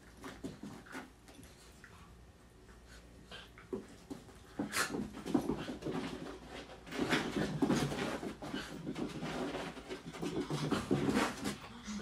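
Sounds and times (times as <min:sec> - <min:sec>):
dogs scuffling: 0:00.0 - 0:01.8, 0:03.6 - 0:12.0.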